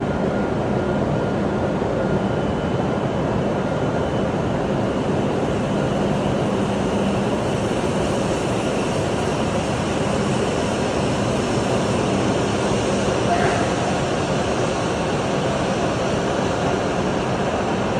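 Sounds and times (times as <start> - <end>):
train rushing and rumbling: 0.0 - 17.9.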